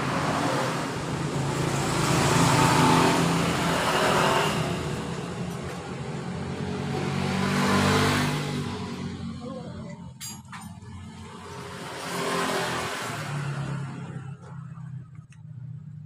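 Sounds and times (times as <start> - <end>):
passing road vehicles: 0.0 - 16.0.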